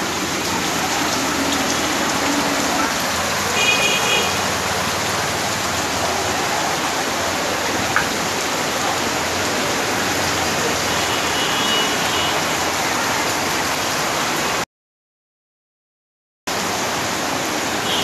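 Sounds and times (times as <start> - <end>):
heavy rain on standing water: 0.0 - 14.6, 16.5 - 18.0.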